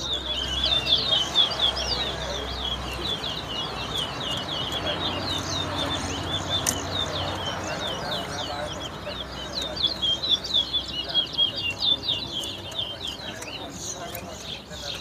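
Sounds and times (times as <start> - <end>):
finch singing chirped notes: 0.0 - 15.0.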